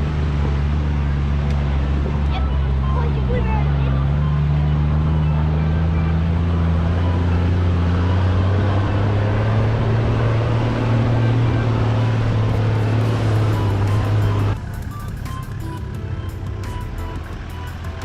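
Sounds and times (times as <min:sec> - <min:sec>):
road noise: 0:00.0 - 0:18.0
vehicle engine droning: 0:00.0 - 0:18.0.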